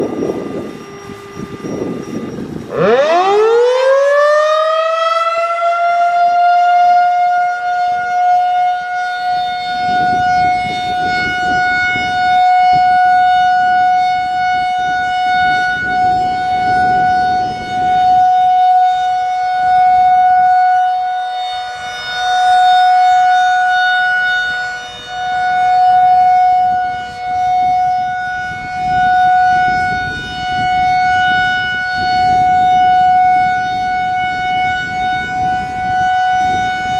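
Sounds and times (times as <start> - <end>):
electromechanical warning siren: 0.0 - 36.9.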